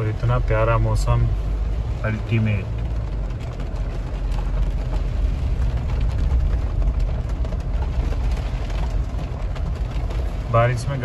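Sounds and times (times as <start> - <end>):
engine and tyres rumbling: 0.0 - 11.0
rain ticking on windscreen: 0.0 - 11.0.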